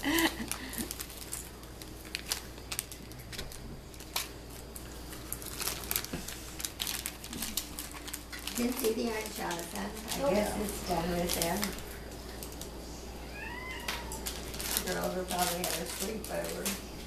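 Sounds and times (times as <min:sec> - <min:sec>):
candy wrappers crinkling: 0:00.0 - 0:17.0.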